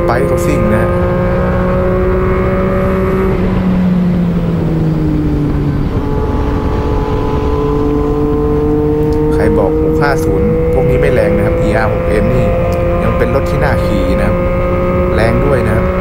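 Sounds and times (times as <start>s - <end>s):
motorcycle engine at speed: 0.0s - 16.0s
wind rush: 0.0s - 16.0s.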